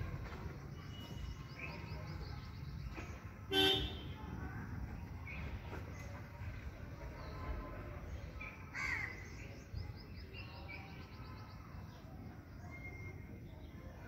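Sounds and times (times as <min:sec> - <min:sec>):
bird calls and chirps: 0:00.0 - 0:03.7, 0:05.0 - 0:14.0.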